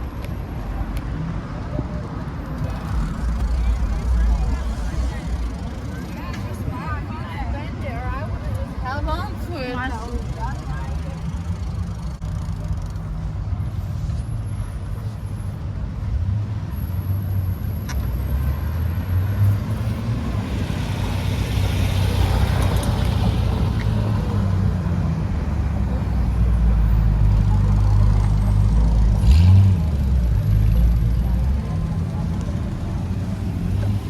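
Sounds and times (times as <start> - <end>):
low traffic rumble: 0.0 - 34.0
vehicles passing: 0.0 - 34.0.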